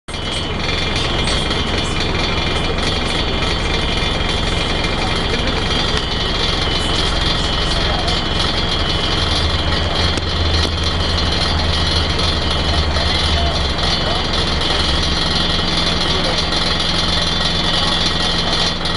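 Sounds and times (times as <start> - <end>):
diesel bus engine idling: 0.1 - 18.9
high whine: 0.1 - 18.9.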